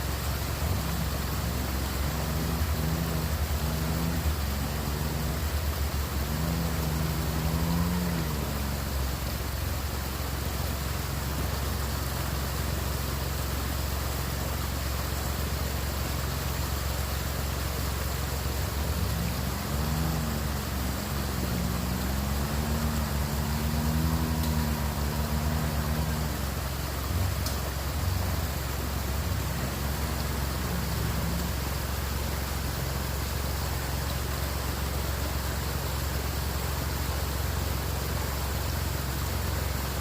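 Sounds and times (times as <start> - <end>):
constant hiss: 0.0 - 40.0
vehicle engine running: 0.0 - 40.0.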